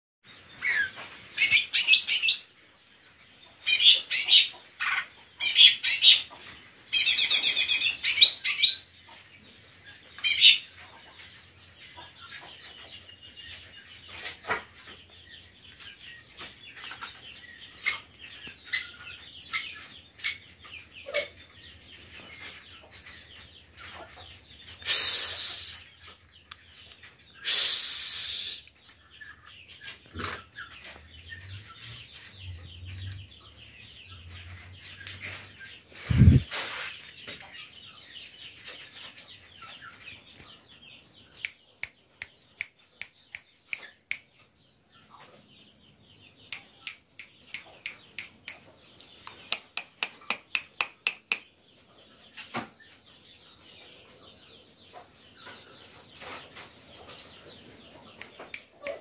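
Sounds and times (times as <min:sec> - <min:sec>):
birds calling: 0:03.4 - 0:59.0.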